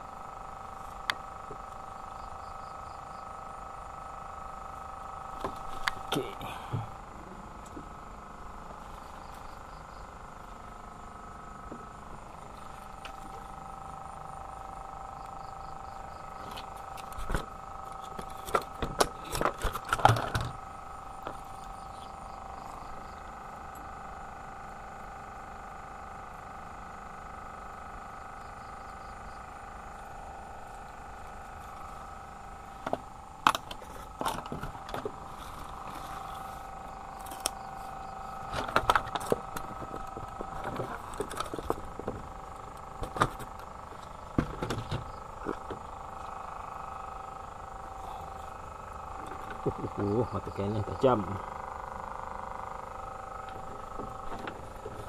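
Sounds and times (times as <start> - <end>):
two-tone background hum: 0.0 - 55.0.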